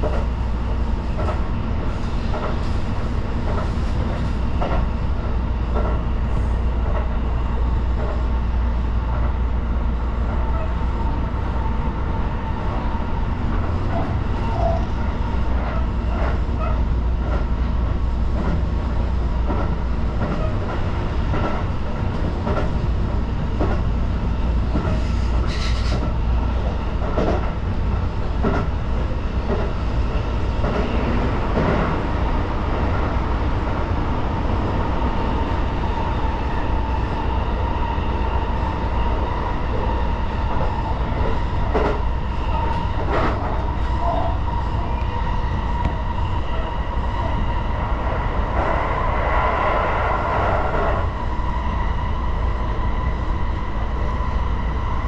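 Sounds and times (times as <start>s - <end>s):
train rumble from inside: 0.0s - 55.0s.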